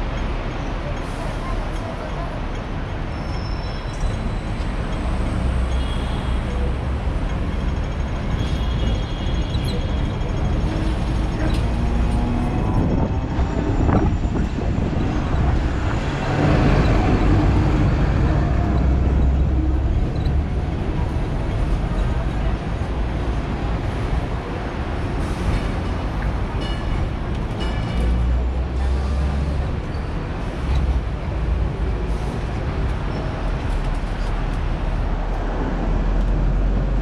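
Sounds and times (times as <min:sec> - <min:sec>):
city traffic: 0:00.0 - 0:37.0
tram passing: 0:00.0 - 0:37.0
tram wheels rumbling on rails: 0:00.0 - 0:37.0.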